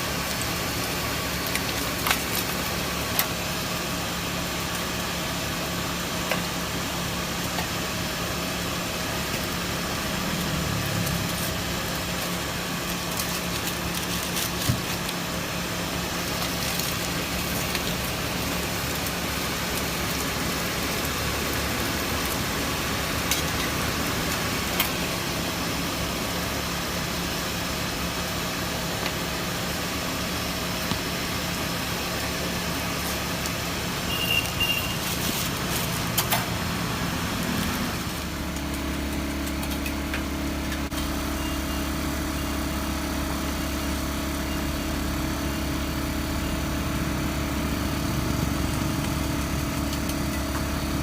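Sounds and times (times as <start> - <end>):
mechanical hum and hiss: 0.0 - 51.0.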